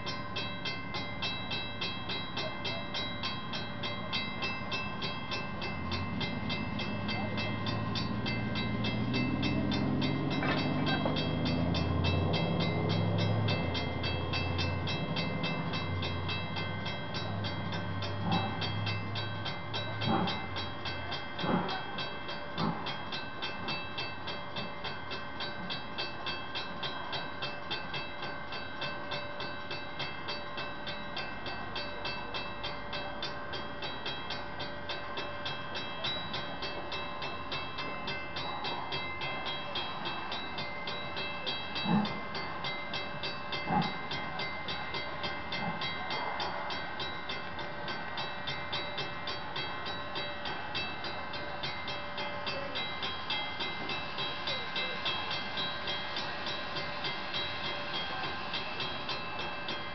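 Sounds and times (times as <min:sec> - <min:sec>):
rhythmic pulsing: 0:00.0 - 0:59.9
steam locomotives deep rumble: 0:00.0 - 0:59.9.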